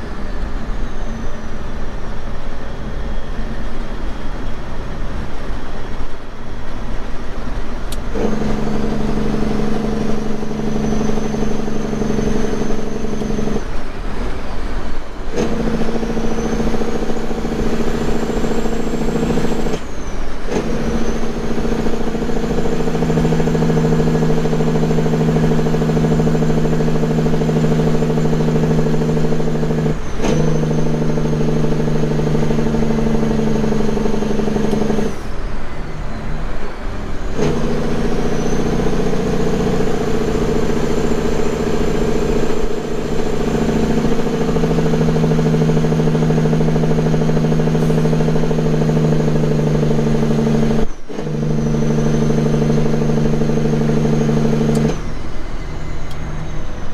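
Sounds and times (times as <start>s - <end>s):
truck diesel engine droning: 0.0s - 56.9s.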